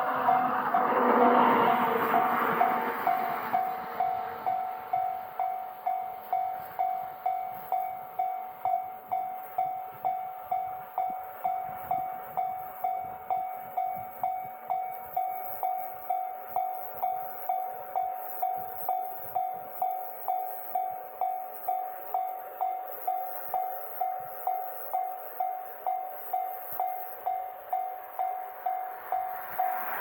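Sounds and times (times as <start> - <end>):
level crossing bell clanging: 1.7 - 30.0.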